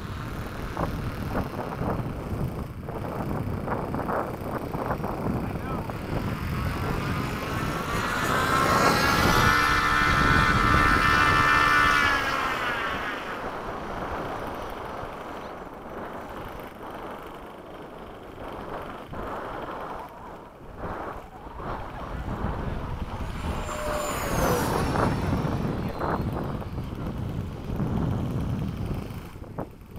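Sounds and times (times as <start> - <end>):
electric ducted fan whining: 0.0 - 29.9
wind on microphone: 0.0 - 29.9.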